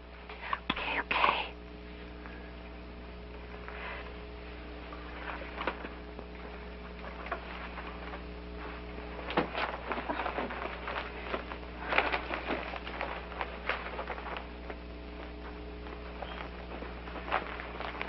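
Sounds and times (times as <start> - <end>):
steady hum: 0.0 - 18.0
clothes rustling: 3.4 - 18.0.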